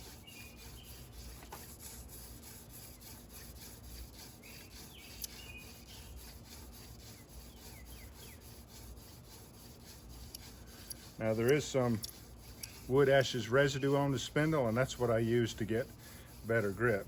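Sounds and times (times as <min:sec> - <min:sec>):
birds chirping: 0:00.0 - 0:09.1, 0:10.3 - 0:15.6
spindle grinding into wooden board: 0:00.0 - 0:17.0.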